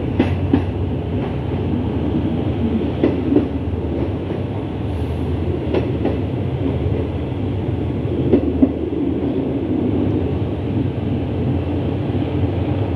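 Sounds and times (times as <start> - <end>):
train wheels rumbling on rails: 0.0 - 12.9.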